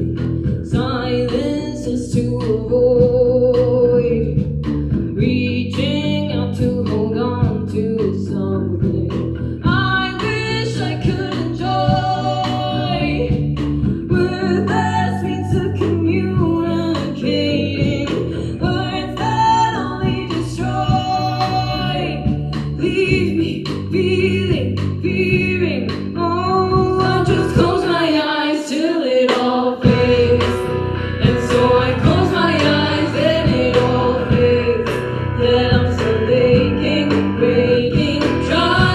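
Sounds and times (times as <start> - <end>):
live band playing: 0.0 - 28.3, 29.3 - 38.9
woman singing: 0.0 - 38.9.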